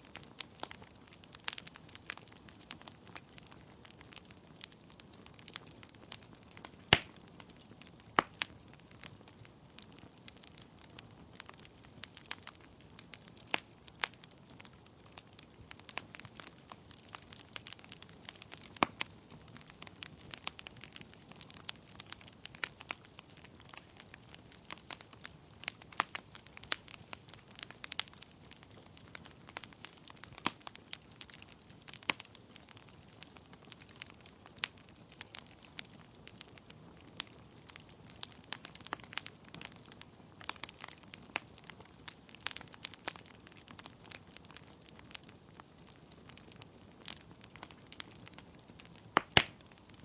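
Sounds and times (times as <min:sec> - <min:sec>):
logs crackling and popping: 0:00.0 - 0:50.0.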